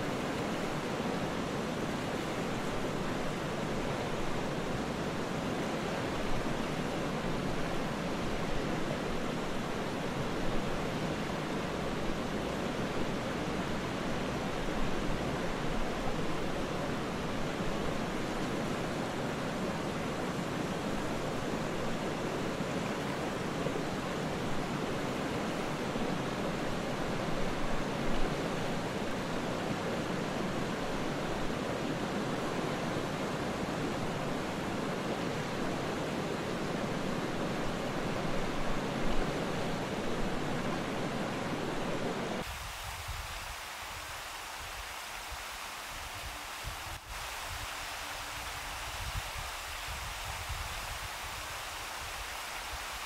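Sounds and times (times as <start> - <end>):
river running over rocks: 0.0 - 53.0.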